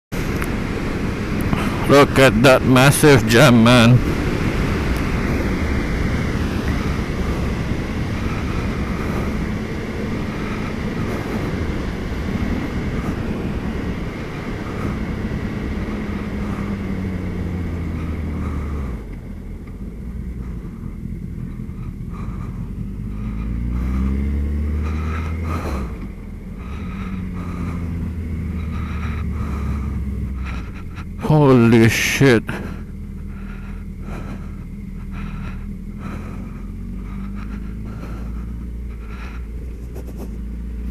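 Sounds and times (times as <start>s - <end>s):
motorcycle engine: 0.1s - 40.9s.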